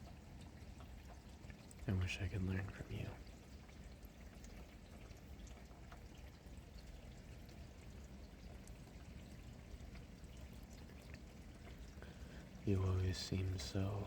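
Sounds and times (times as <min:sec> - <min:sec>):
raindrop ticks: 0:00.0 - 0:14.0
steady rain falling: 0:00.1 - 0:14.0.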